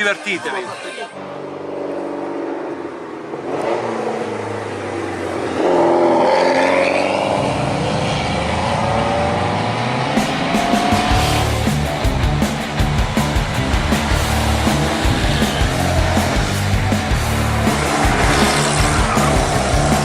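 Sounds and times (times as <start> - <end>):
car engine revving: 1.2 - 20.0
car engines running: 1.2 - 20.0.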